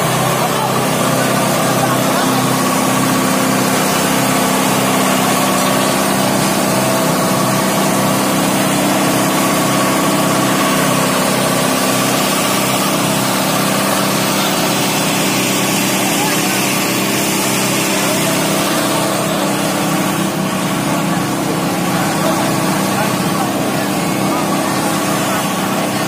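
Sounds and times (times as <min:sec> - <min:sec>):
fire engine engine humming: 0:00.0 - 0:26.0.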